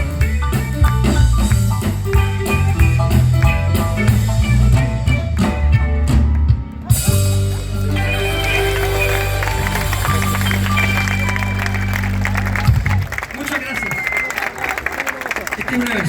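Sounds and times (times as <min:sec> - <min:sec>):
guitar: 0:00.0 - 0:13.0
live band playing: 0:00.0 - 0:14.4.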